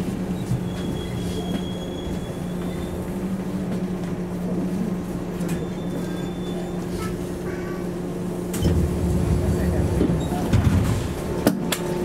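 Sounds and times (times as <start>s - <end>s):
train carriage low hum: 0.0s - 12.0s
train pulling in: 0.0s - 12.0s.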